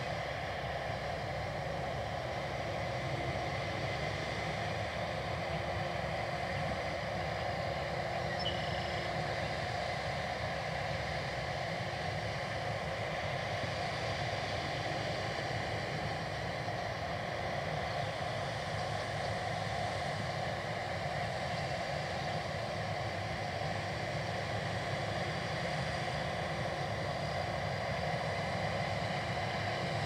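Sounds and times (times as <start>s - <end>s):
combine harvester engines droning: 0.0s - 30.0s.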